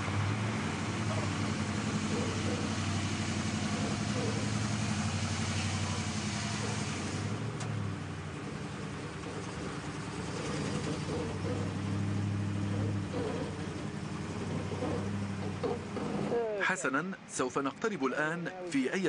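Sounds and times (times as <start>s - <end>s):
engine running at low revs: 0.0s - 16.6s.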